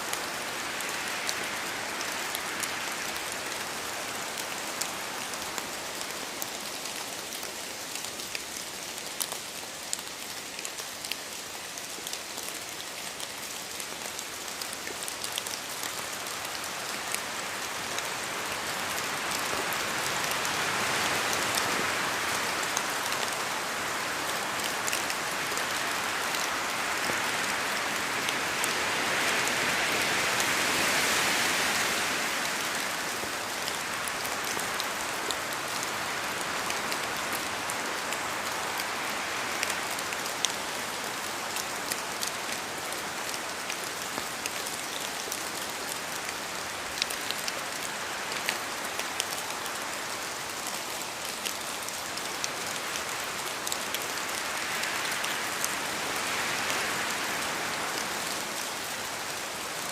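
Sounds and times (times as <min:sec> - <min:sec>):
rain falling in a forest: 0:00.0 - 0:59.9.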